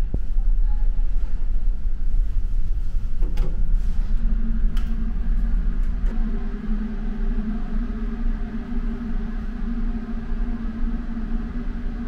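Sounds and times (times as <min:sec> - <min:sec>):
ship engines low rumble: 0:00.0 - 0:12.0
steady hum: 0:00.0 - 0:12.0.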